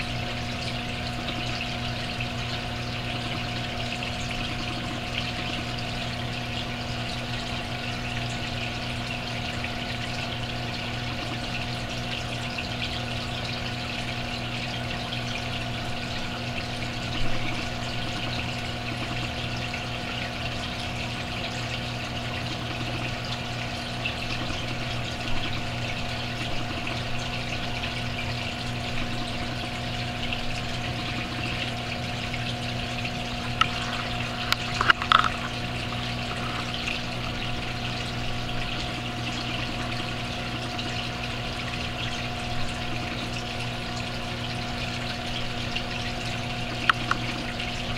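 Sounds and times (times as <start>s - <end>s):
aquarium pump humming: 0.0s - 47.9s
water trickling: 0.0s - 47.9s.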